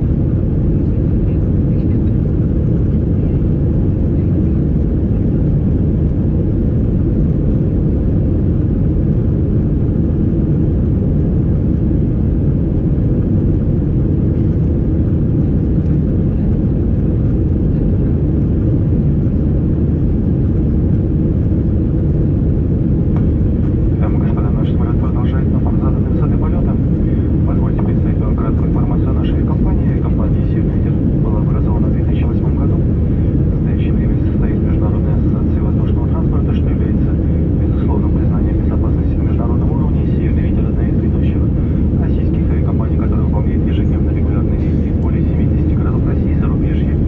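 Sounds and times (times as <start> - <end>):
airliner cabin engine noise: 0.0 - 47.0.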